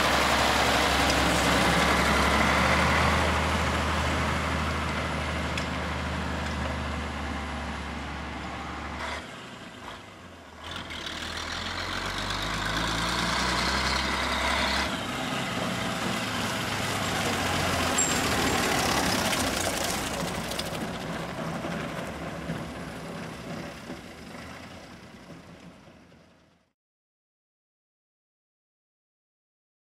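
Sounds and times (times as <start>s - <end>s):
tractor diesel engine running: 0.0s - 26.7s.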